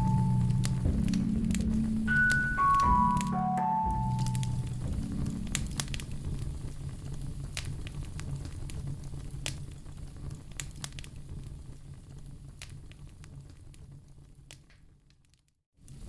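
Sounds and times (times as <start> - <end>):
low rumble of flame: 0.0 - 2.3, 4.0 - 15.2
wood fire crackling: 0.0 - 2.9, 4.2 - 16.0.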